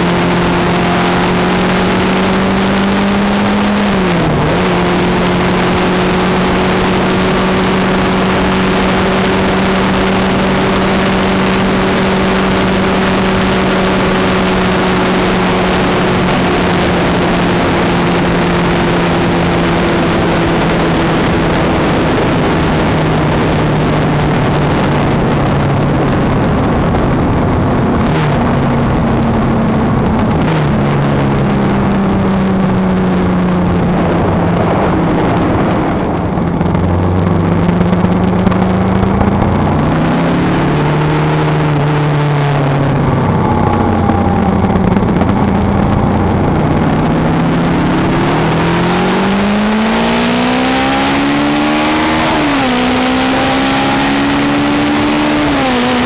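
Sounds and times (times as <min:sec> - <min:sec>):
motorcycle engine riding: 0:00.0 - 0:56.0
wind noise on microphone: 0:00.0 - 0:56.0.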